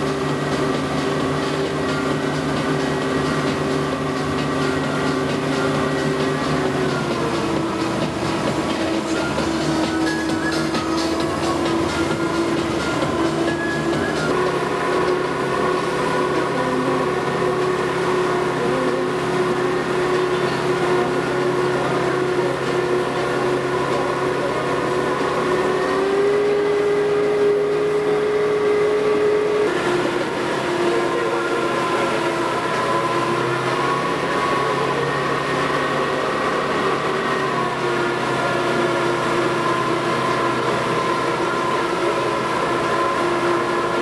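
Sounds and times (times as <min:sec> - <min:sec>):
motorboat engine droning: 0:00.0 - 0:44.0.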